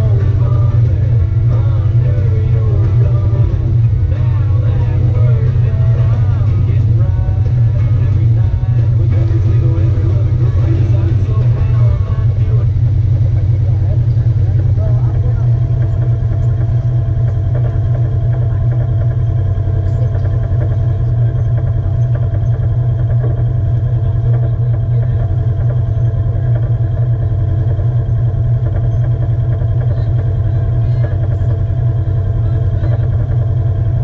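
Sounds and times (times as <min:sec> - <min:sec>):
utility vehicle engine idling: 0:00.0 - 0:34.0.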